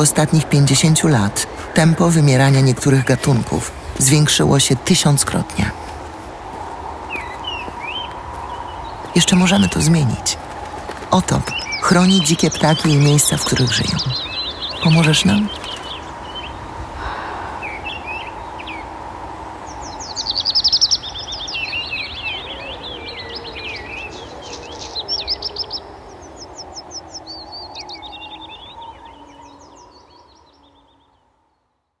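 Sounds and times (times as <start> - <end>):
songbirds chirping trills: 0.0 - 32.0.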